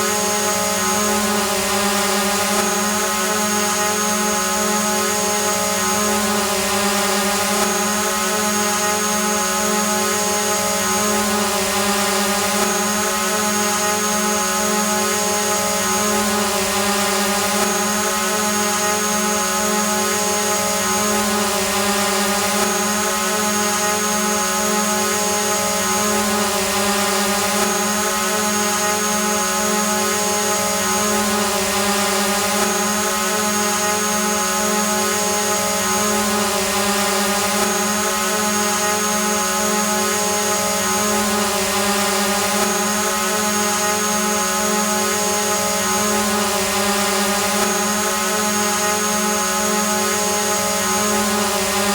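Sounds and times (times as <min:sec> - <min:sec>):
drone propeller whine: 0:00.0 - 0:51.9.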